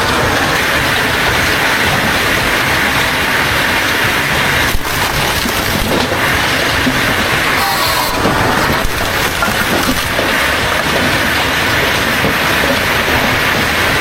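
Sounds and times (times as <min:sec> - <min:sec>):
loud steady machine noise: 0:00.0 - 0:14.0.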